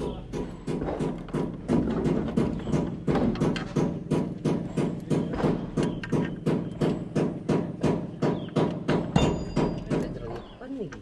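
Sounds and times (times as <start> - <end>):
rapid knocking: 0.0 - 10.2.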